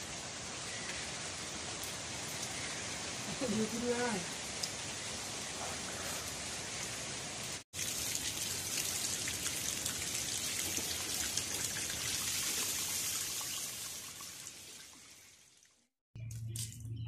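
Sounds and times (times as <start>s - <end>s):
rain falling on water: 0.0s - 15.9s.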